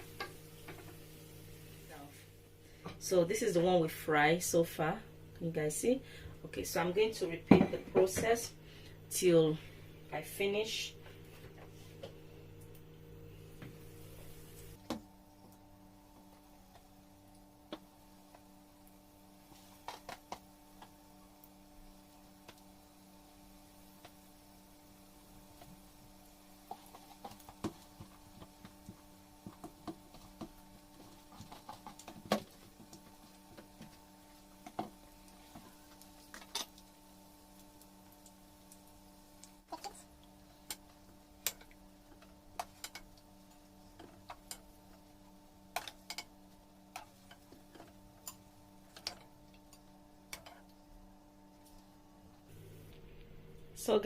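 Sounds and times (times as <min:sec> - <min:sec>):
dough frying in oil: 0:00.0 - 0:03.6, 0:11.4 - 0:52.9
steady low hum: 0:00.0 - 0:54.0.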